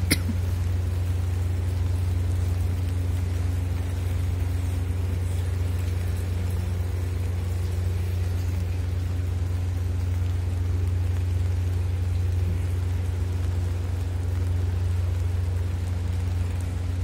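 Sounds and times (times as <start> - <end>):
diesel locomotive idling hum: 0.0 - 17.0.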